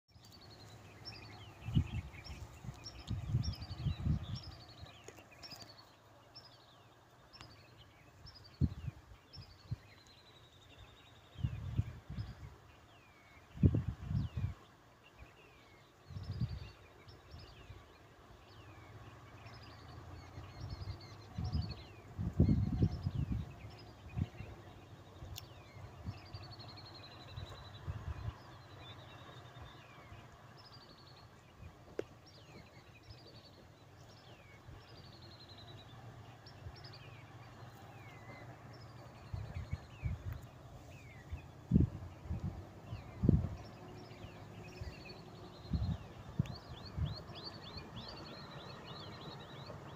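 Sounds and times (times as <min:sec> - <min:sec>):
small birds chirping: 0:00.1 - 0:49.9.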